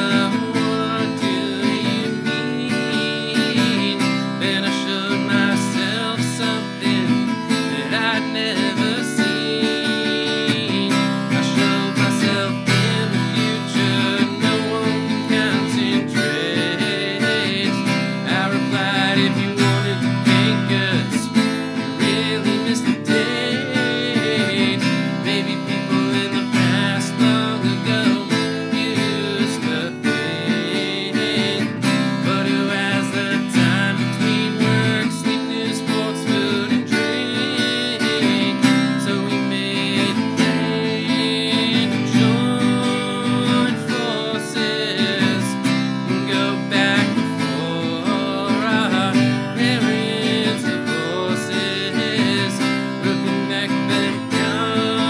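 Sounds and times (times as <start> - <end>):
acoustic guitar strumming chords: 0.0 - 55.0
man singing: 0.0 - 55.0.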